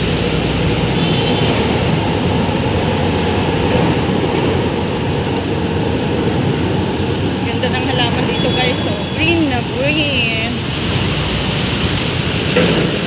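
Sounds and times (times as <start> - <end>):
fountain water splashing: 0.0 - 13.0
road traffic roar: 0.0 - 13.0.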